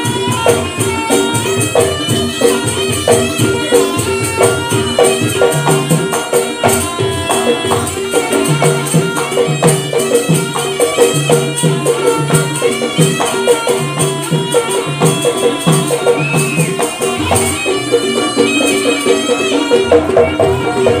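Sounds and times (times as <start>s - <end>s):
traditional ensemble dance music: 0.0s - 21.0s.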